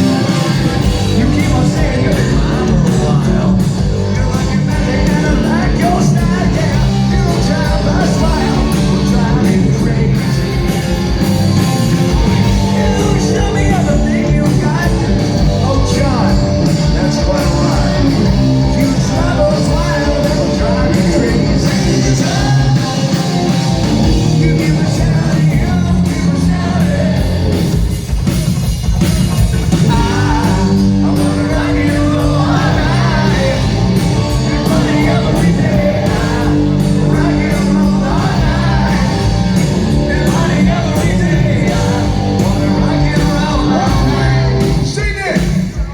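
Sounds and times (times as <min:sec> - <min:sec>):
person singing: 0:00.0 - 0:10.7, 0:12.1 - 0:27.8, 0:29.7 - 0:45.9
drums: 0:00.0 - 0:45.9
live rock band playing: 0:00.0 - 0:45.9.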